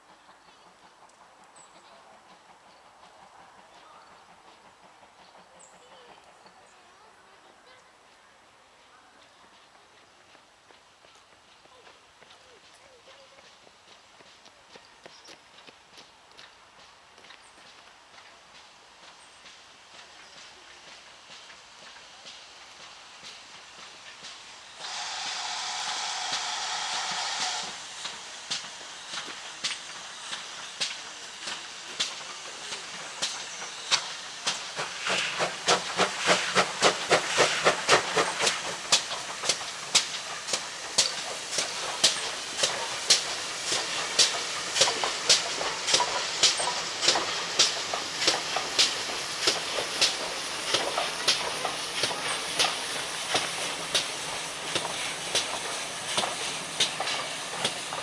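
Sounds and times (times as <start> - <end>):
steam hiss: 0.0 - 14.4, 15.4 - 58.0
steam locomotive chuffing: 0.0 - 58.0.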